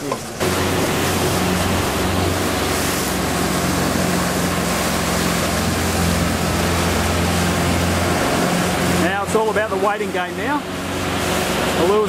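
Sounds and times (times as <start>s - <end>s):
boat engine humming: 0.0s - 12.0s
water rushing from wake: 0.0s - 12.0s.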